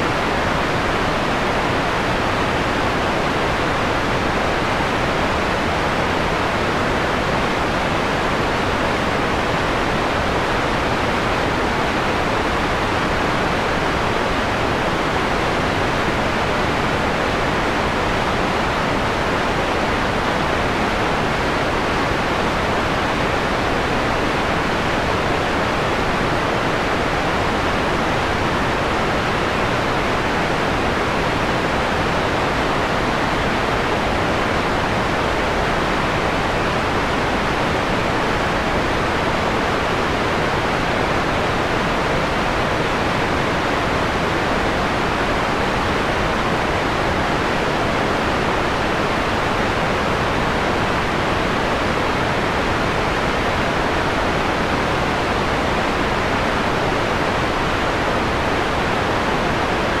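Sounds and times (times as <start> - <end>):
mellow white noise hiss: 0.0 - 60.0.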